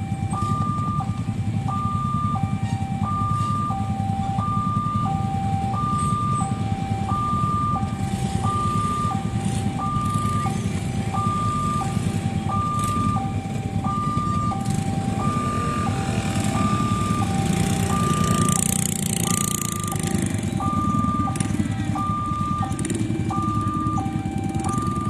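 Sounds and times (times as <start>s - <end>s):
two-tone crossing alarm: 0.0s - 25.0s.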